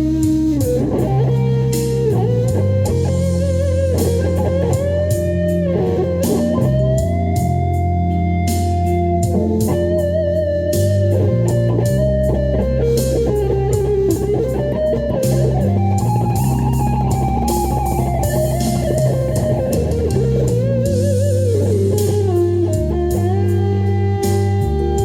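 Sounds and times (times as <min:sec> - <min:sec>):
bass: 0:00.0 - 0:25.0
drums: 0:00.0 - 0:25.0
electric guitar lead: 0:00.0 - 0:25.0.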